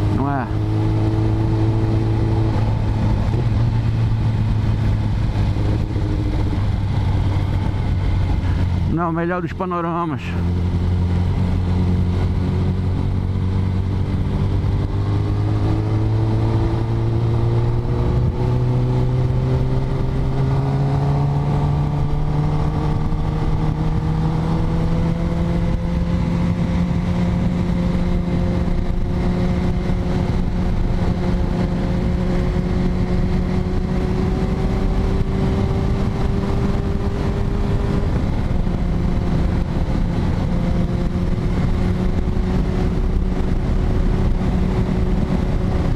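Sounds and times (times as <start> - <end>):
motorcycle engine running: 0.0 - 45.9
wind rush: 0.0 - 45.9.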